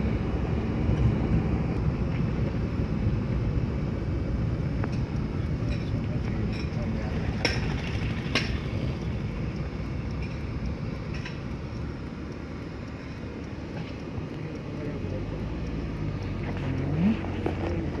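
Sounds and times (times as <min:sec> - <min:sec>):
vehicle engine and road rumble: 0:00.0 - 0:18.0.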